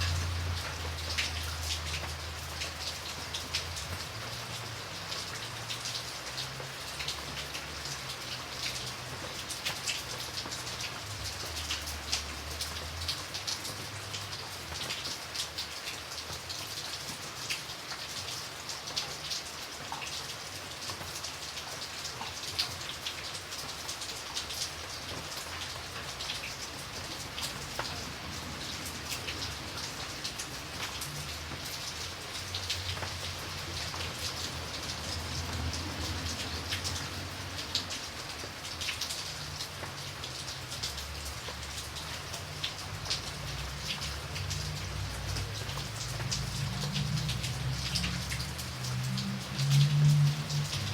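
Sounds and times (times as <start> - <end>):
rain hissing: 0.0 - 50.9
raindrops ticking: 0.0 - 50.9.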